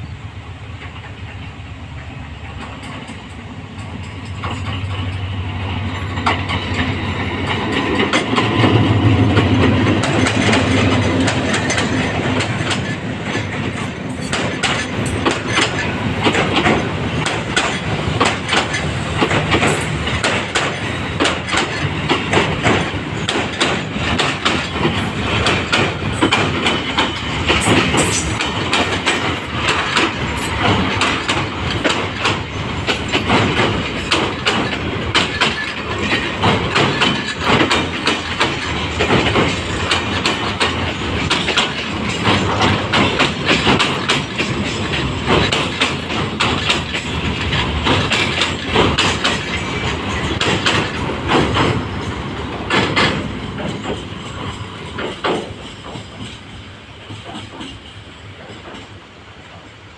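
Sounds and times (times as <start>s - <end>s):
locomotive engine hum: 0.0s - 56.9s
train wheels clattering: 0.0s - 59.8s.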